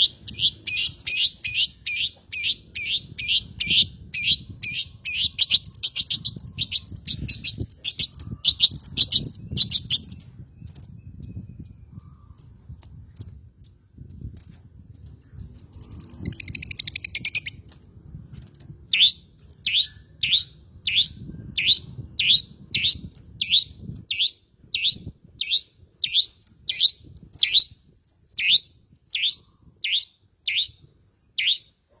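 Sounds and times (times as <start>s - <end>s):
bird high whistled notes and trill: 0.0s - 17.8s, 18.9s - 31.8s.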